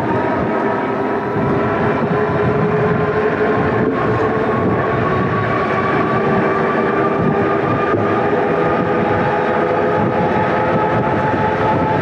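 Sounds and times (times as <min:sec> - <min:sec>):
rushing wind: 0:00.0 - 0:12.0
tires rumbling on pavement: 0:00.0 - 0:12.0.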